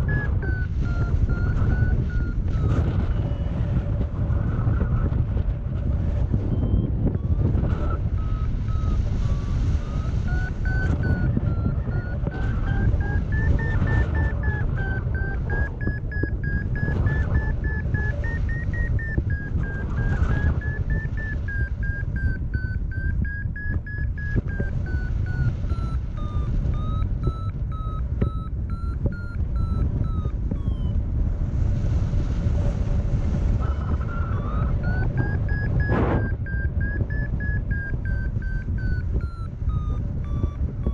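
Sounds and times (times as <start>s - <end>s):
variometer rapid beeps: 0.0s - 31.2s, 33.4s - 40.9s
wind rumble on microphone: 0.0s - 40.9s.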